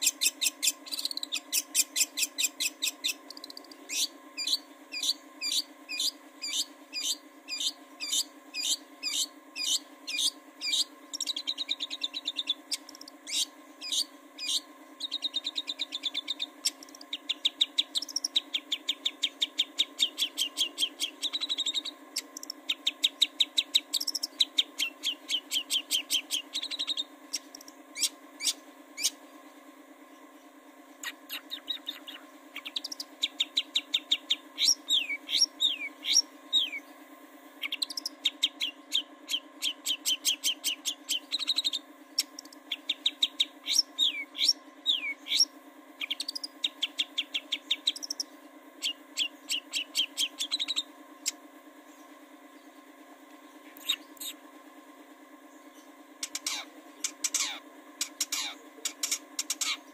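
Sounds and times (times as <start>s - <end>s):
bird chirping rapidly: 0.0s - 29.2s, 31.0s - 36.9s, 37.6s - 51.4s, 53.4s - 54.4s, 55.6s - 59.9s.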